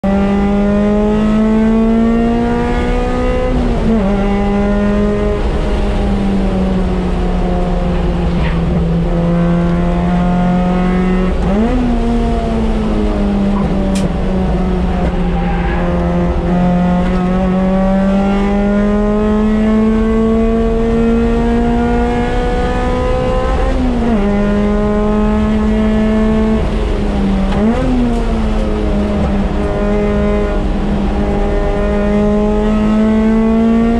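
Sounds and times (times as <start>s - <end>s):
car engine revving: 0.0s - 33.9s
low road rumble: 0.0s - 33.9s.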